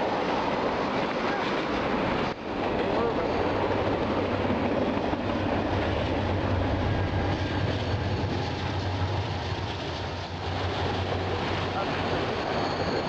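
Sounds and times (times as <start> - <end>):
freight train rumbling by: 0.0 - 13.0.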